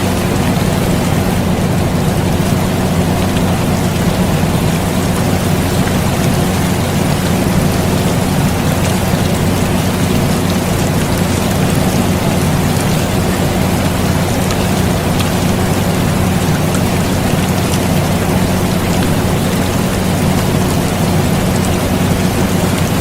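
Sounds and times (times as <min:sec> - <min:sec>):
air conditioner humming: 0:00.0 - 0:23.0
steady rain: 0:00.0 - 0:23.0.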